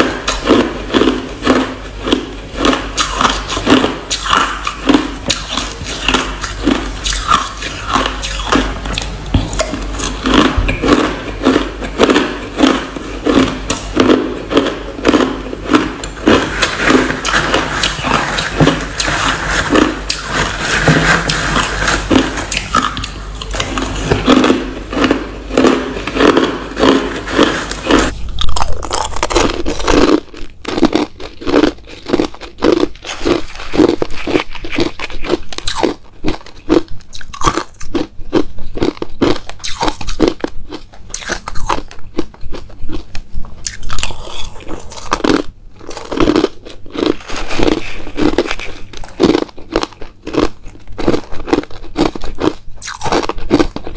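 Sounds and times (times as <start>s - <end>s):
person chewing crushed ice: 0.0s - 53.9s.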